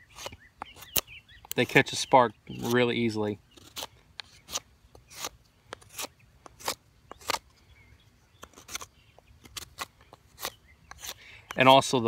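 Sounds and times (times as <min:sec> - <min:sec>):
knife shaving wood: 0:00.0 - 0:07.5, 0:08.4 - 0:11.8.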